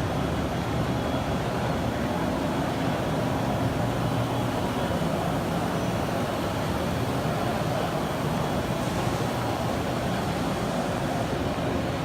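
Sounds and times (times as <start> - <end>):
exhibition hall background din: 0.0 - 12.0.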